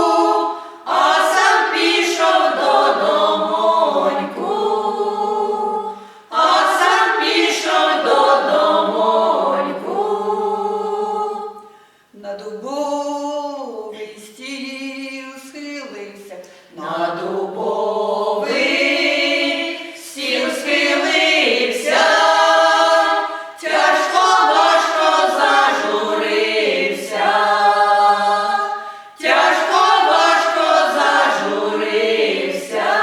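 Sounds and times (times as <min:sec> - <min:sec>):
vocal ensemble singing unaccompanied: 0:00.0 - 0:33.0.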